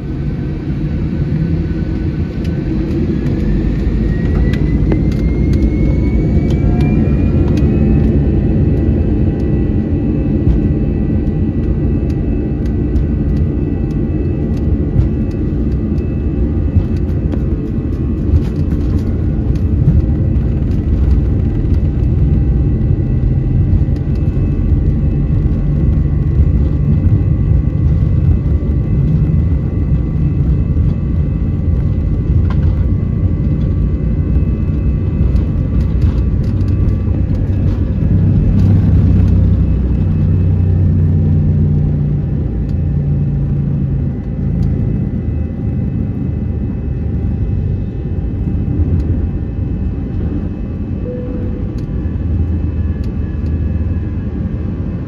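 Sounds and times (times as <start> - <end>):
jet engines rumbling: 0.0 - 55.0
wheels running on runway: 1.3 - 45.8.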